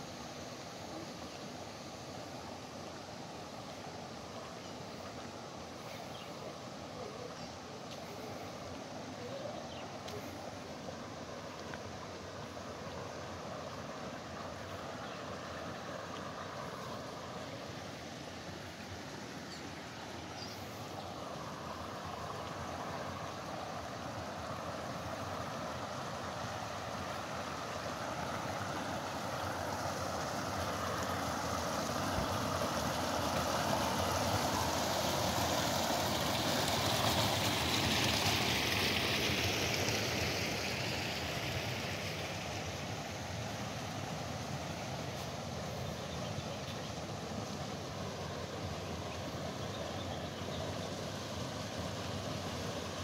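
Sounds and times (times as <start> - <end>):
water rushing in a channel: 0.0 - 53.0.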